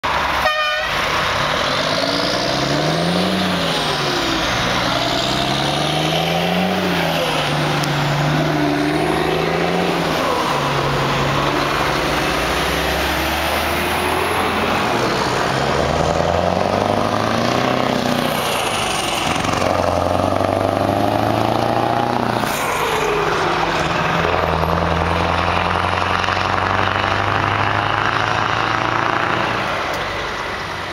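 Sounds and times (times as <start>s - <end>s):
truck engines roaring: 0.0s - 30.9s.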